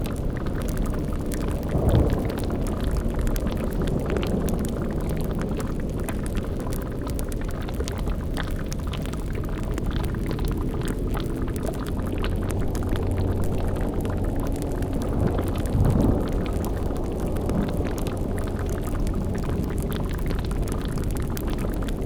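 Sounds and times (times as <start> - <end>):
bubbling boiling cauldron: 0.0 - 22.0
steady low rumble: 0.0 - 22.0.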